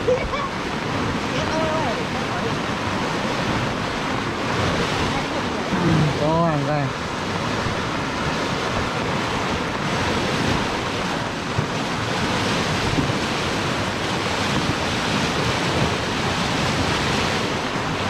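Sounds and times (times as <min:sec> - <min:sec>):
flood water rushing down stream: 0:00.0 - 0:18.0.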